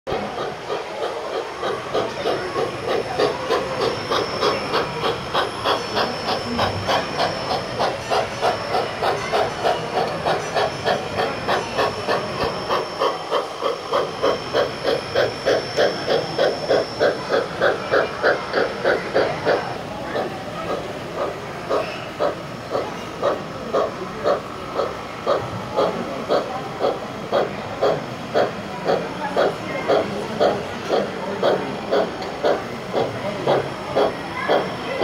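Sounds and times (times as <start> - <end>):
model steam locomotive chuffing: 0.1 - 35.0.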